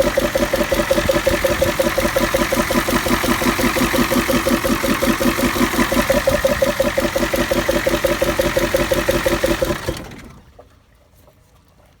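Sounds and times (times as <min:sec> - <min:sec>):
diesel engine idling with rhythmic pulsing: 0:00.0 - 0:10.6.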